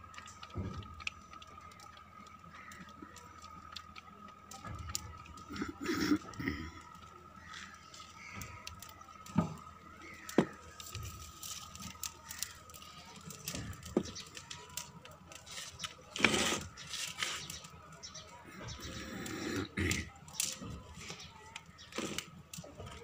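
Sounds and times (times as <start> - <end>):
twigs rustling: 0.0 - 23.0
twigs snapping and knocking: 0.0 - 23.0.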